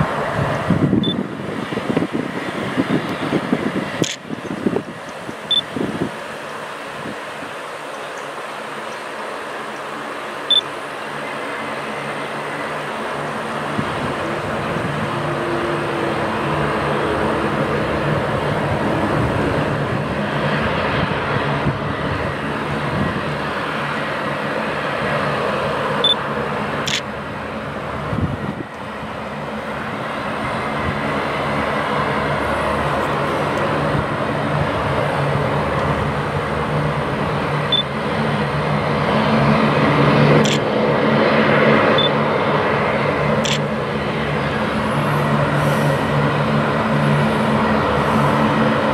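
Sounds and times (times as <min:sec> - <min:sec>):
turboprop engines droning: 0:00.0 - 0:48.9.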